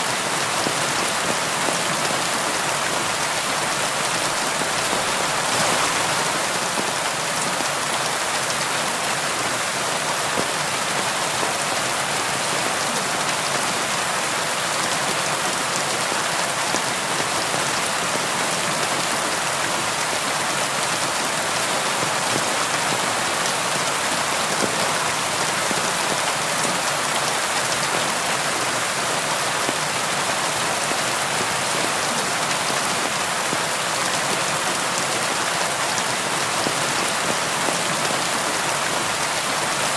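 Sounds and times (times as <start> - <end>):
rain on a window: 0.1 - 39.9.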